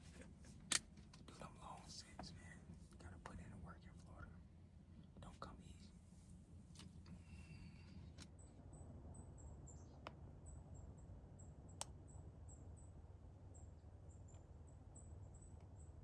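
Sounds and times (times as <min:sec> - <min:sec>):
insect chirping faintly: 0:01.2 - 0:16.0.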